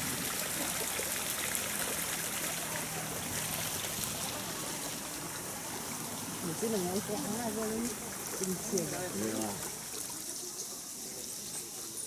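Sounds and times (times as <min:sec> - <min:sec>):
water running and trickling: 0:00.0 - 0:12.0.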